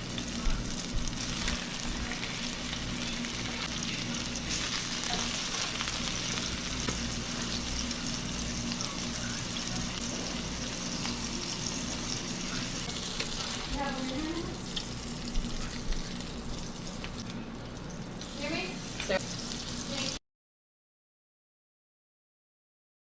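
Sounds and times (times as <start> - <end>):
food sizzling in a skillet: 0.0 - 20.2.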